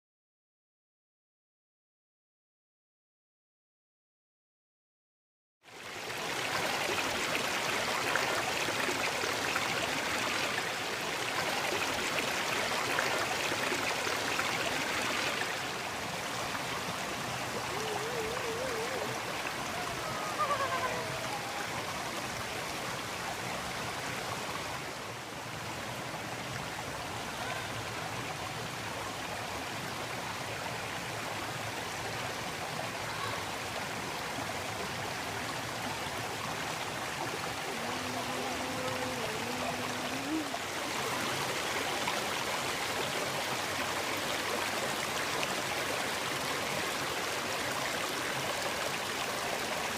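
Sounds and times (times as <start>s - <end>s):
waterfall and stream rushing: 5.7s - 49.9s.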